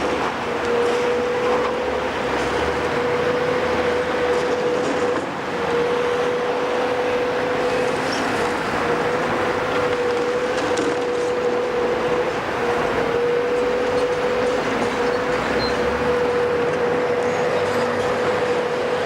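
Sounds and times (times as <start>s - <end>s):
high machine whine: 0.0s - 19.0s
machinery rumbling and grinding: 0.0s - 19.0s.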